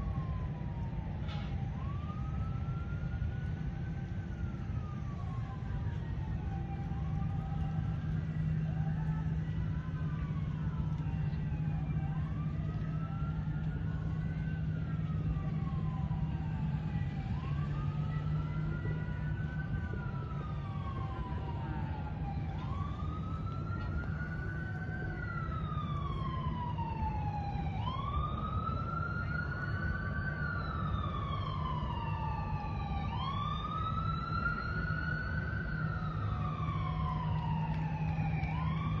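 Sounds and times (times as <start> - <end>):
emergency siren wailing: 0.0 - 39.0.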